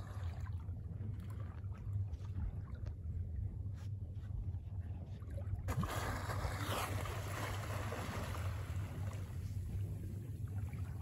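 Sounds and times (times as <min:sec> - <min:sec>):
boat low rumble: 0:00.0 - 0:11.0.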